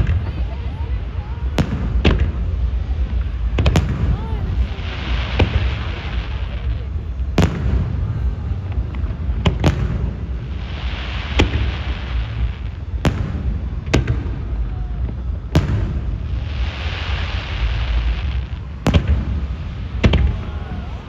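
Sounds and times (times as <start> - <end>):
crowd voices: 0.0 - 21.0
fireworks rumbling and crackling: 0.0 - 21.0.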